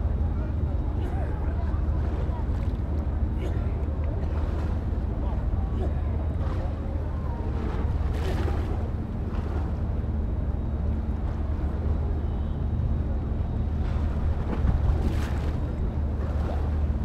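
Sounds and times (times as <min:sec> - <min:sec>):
faint steady hum: 0:00.0 - 0:17.0
wind rumble on microphone: 0:00.0 - 0:17.0.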